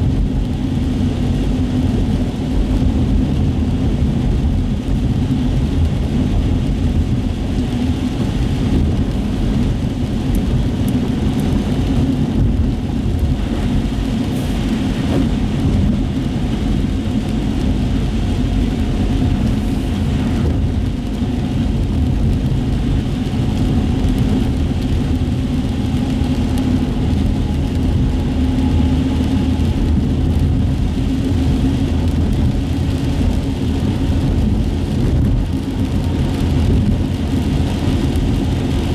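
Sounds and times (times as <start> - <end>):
car engine and tyre rumble: 0.0 - 38.9
tyres hissing on wet road: 0.0 - 38.9.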